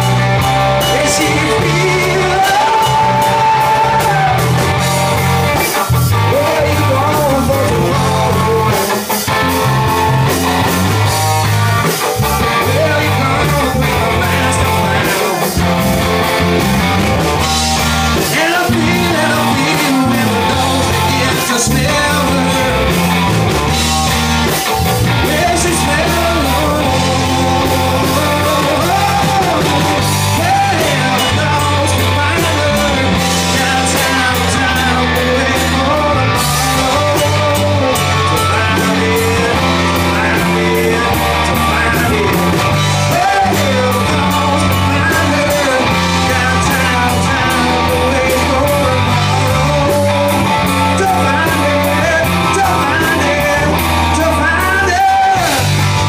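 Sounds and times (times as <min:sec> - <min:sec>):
man singing into a microphone: 0:00.0 - 0:09.3, 0:11.8 - 0:15.9, 0:17.4 - 0:23.3, 0:24.4 - 0:56.0
drum kit: 0:00.0 - 0:56.0
electric guitars: 0:00.0 - 0:56.0
steady low bass line: 0:00.0 - 0:56.0.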